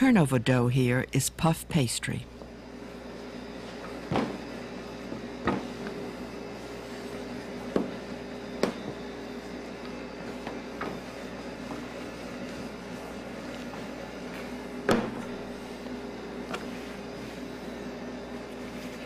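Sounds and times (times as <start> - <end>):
steady background hum: 0.0 - 19.0
rolling pin rolling pastry: 2.4 - 19.0.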